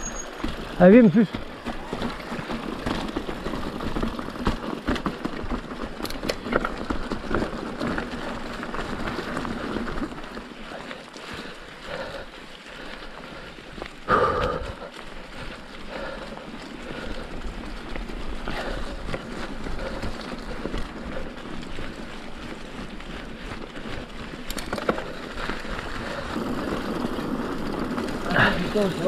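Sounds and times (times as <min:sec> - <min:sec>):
bike clicks and rattles: 0:00.0 - 0:29.0
bike tyres on dirt trail: 0:00.0 - 0:29.0.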